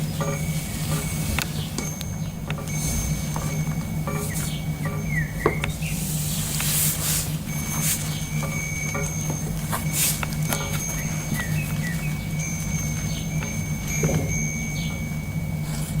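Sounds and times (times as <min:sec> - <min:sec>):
soft chimes ringing: 0:00.0 - 0:05.8, 0:07.2 - 0:16.0
bird chirps: 0:00.0 - 0:06.5, 0:07.5 - 0:15.2
steady low hum: 0:00.0 - 0:16.0.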